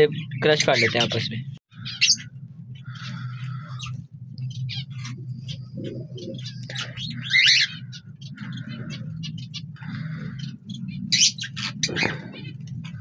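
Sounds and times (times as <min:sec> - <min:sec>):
birds chirping and calling: 0:00.0 - 0:13.0
steady low hum: 0:00.0 - 0:13.0.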